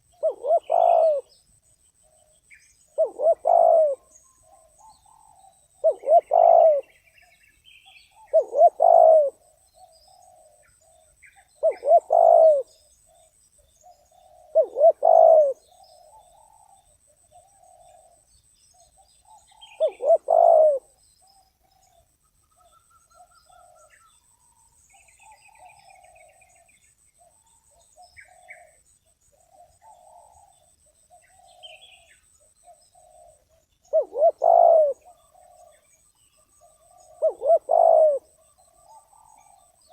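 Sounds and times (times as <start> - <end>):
dove cooing: 0.0 - 1.4, 2.1 - 7.1, 8.0 - 18.2, 18.8 - 22.0, 22.6 - 24.2, 25.0 - 39.9.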